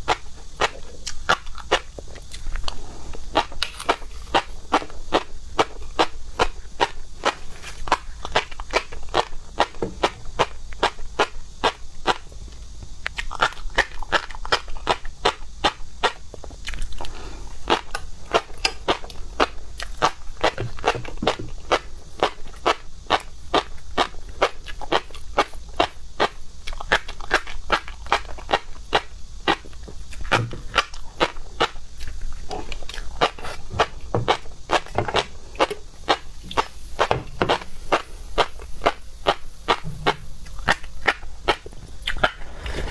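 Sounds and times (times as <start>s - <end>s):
chewing crunchy food: 0.0s - 42.9s.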